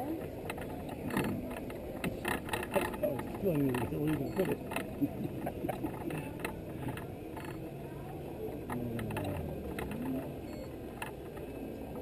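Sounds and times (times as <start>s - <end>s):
low vehicle hum: 0.0s - 12.0s
clicks and creaks: 0.2s - 7.7s, 8.5s - 12.0s.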